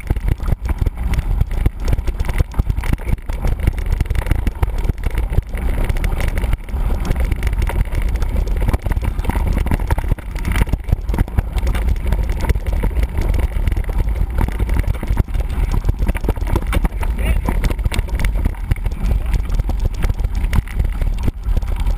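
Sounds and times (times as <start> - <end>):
bike knocks and rattles: 0.0 - 21.9
wind buffeting microphone: 0.0 - 21.9.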